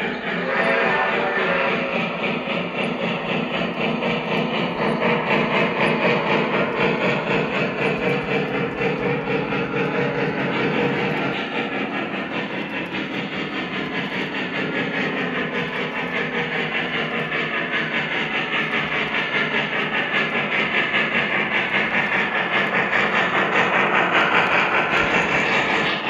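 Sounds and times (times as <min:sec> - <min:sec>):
model steam locomotive chuffing: 0:00.0 - 0:26.0
wheels rumbling on track: 0:00.0 - 0:26.0.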